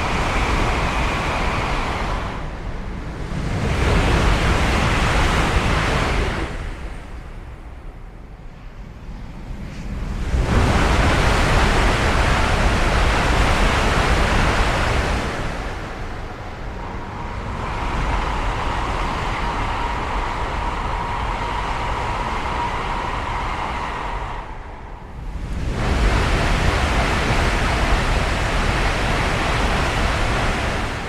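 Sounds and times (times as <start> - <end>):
high-speed train passing: 0.0 - 31.0.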